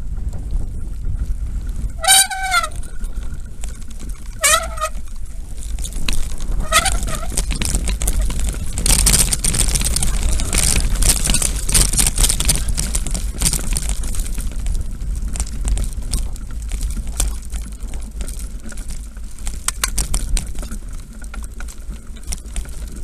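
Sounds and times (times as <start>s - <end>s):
wind rumble on microphone: 0.0s - 23.0s
footsteps crunching on stones: 1.2s - 23.0s.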